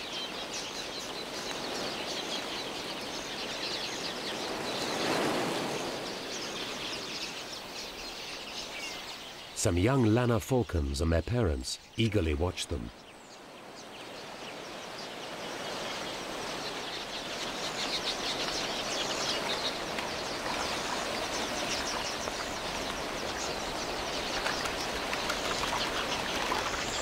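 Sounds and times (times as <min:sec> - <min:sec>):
flock of birds chirping: 0:00.0 - 0:27.0.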